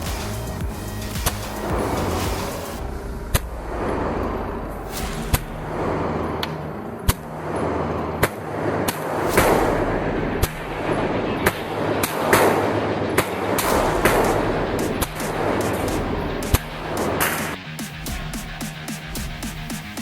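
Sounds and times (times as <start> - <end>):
gunshots with echo: 1.3 - 18.3.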